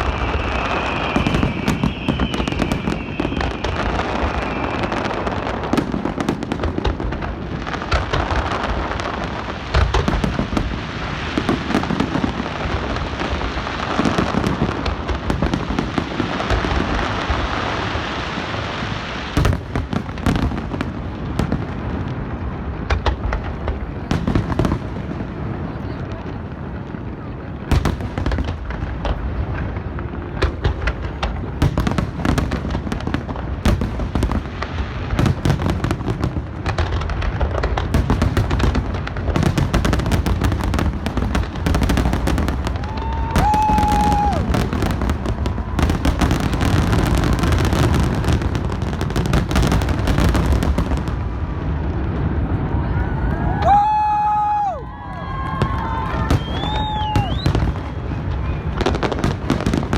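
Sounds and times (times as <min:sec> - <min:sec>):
fireworks bangs and crackling: 0:00.0 - 0:59.9
loud fireworks booms: 0:00.0 - 0:59.9.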